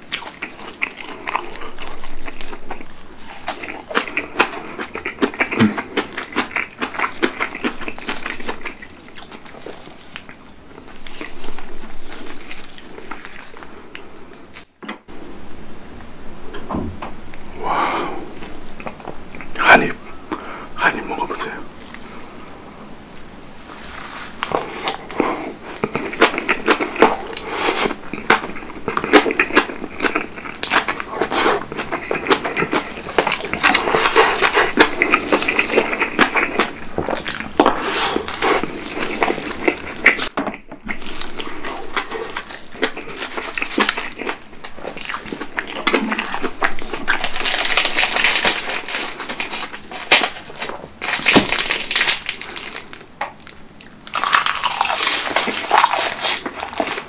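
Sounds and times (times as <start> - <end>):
wet chewing and crunching: 0.0 - 15.1, 18.3 - 19.7, 24.2 - 57.0.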